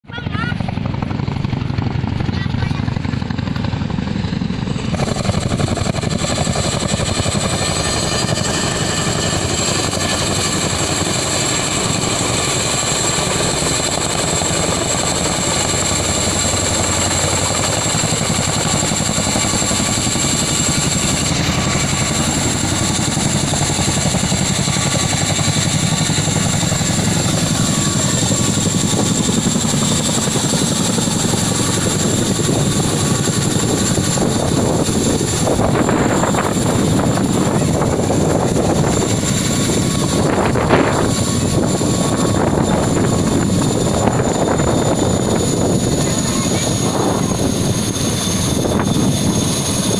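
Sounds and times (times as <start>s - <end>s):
helicopter rotor beat: 0.0s - 49.9s
high turbine whine: 0.5s - 49.9s.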